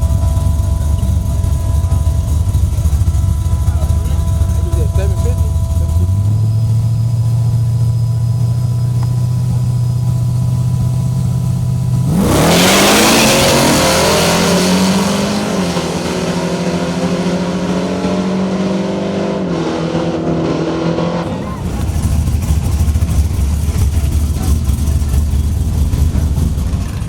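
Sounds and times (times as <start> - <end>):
drag racing truck engines: 0.0 - 27.0.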